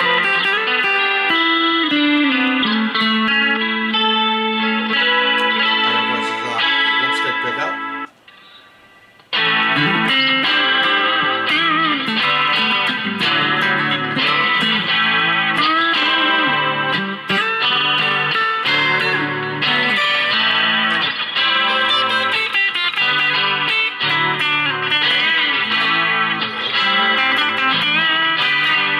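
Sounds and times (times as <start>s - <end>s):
electric guitar through amp: 0.0s - 28.9s.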